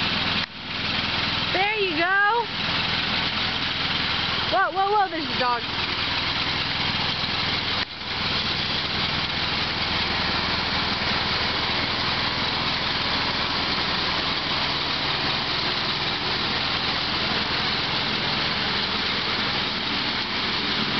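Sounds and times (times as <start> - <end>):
lawn tractor engine running: 0.0 - 20.9.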